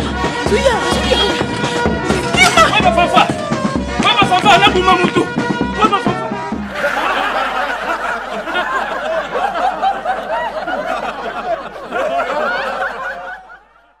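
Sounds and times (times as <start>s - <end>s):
crowd laughing: 0.9s - 14.0s.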